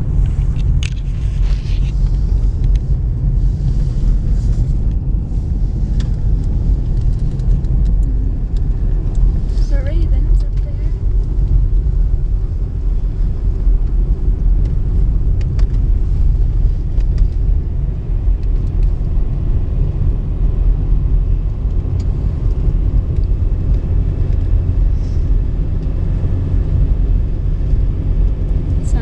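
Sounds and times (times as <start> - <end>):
car driving on snow: 0.0 - 29.0.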